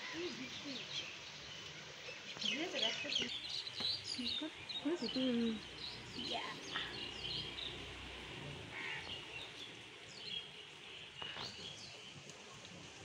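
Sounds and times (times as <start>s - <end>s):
birds chirping: 0.0s - 12.7s.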